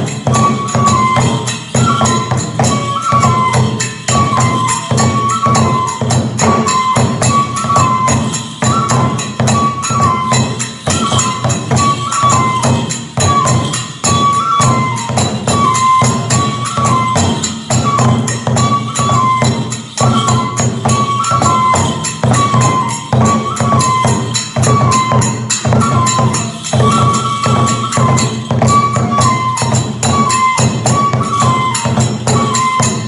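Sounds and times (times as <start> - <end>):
bamboo flute: 0.0 - 33.0
drum strokes: 0.0 - 33.0
small hand cymbals: 0.0 - 33.0.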